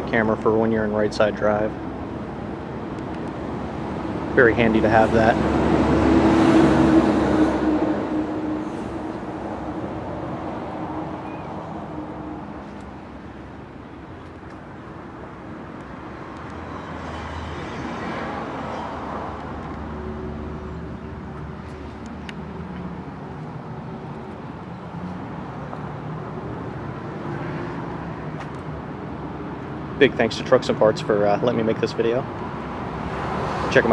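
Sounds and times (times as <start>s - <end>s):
vehicle passing: 2.5s - 30.4s, 31.4s - 33.9s.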